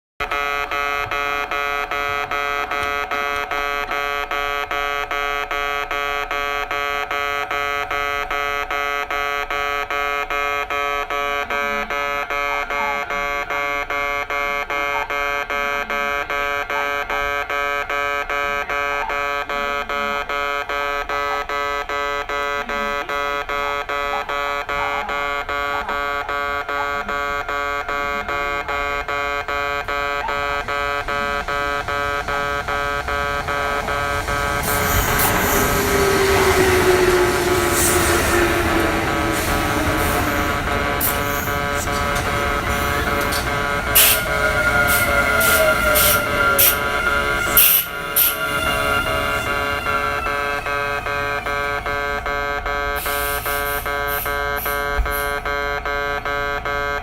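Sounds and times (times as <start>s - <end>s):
level crossing warning bell ringing: 0.2s - 57.0s.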